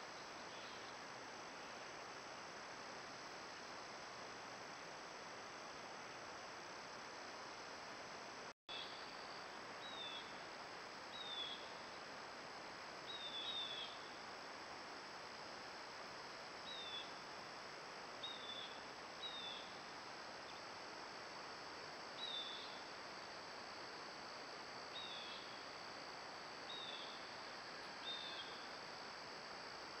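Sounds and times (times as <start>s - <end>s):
high-pitched background hiss: 0.0s - 30.0s.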